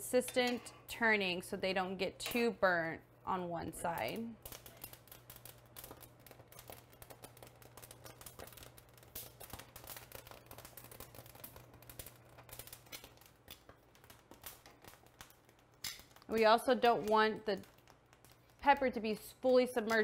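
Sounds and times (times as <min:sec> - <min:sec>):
chiles crackling and popping: 0:03.3 - 0:20.0.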